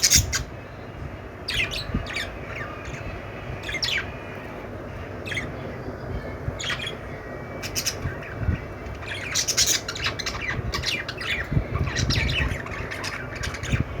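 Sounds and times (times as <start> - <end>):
budgerigars chirping and squawking: 0.0 - 0.6, 1.4 - 14.0
low background rumble: 0.0 - 14.0.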